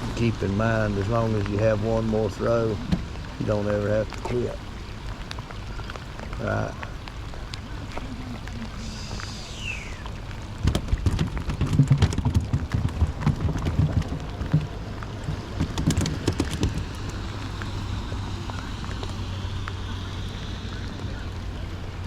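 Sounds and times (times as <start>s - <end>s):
rain and wind on microphone: 0.0s - 22.0s.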